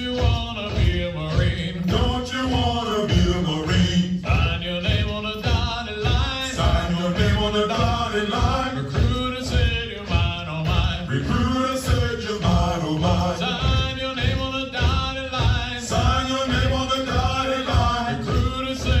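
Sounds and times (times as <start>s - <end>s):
men singing marching cadence: 0.0s - 19.0s.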